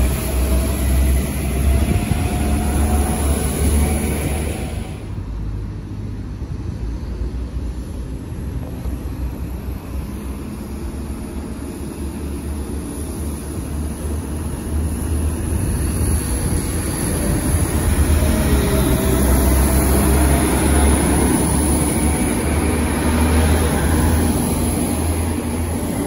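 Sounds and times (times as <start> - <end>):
diesel train engine rumble: 0.0 - 26.0
wheel and rail noise: 0.0 - 26.0.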